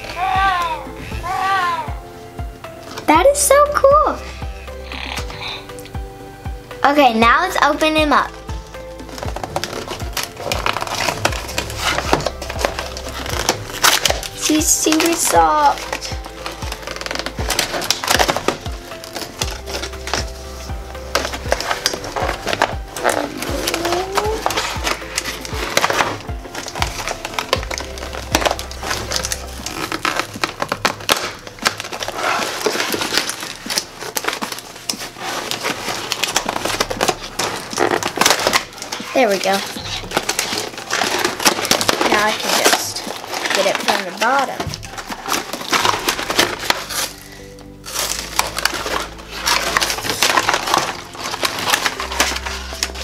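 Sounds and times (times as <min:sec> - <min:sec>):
packaging crackling and crinkling: 0:00.0 - 0:01.8, 0:06.8 - 0:53.0
background music: 0:00.0 - 0:53.0.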